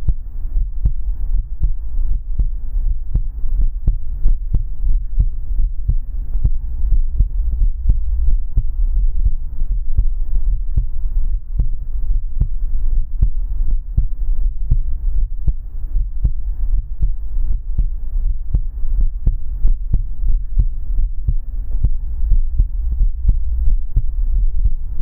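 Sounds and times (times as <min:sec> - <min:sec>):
heartbeat thuds: 0:00.0 - 0:25.0
low rumble: 0:00.0 - 0:25.0.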